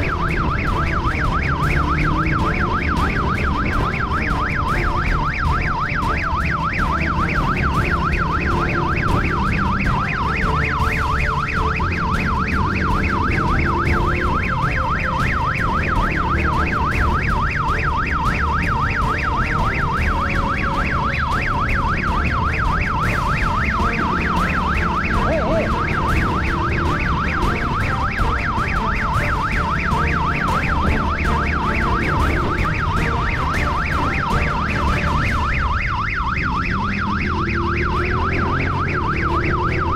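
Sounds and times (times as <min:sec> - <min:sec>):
motorcycle engine rumble: 0:00.0 - 0:39.9
police siren warbling: 0:00.0 - 0:39.9
road noise: 0:00.0 - 0:39.9.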